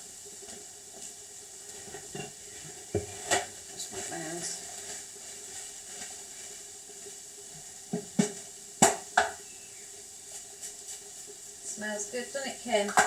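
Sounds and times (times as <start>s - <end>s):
food sizzling faintly in a frying pan: 0.0s - 13.0s.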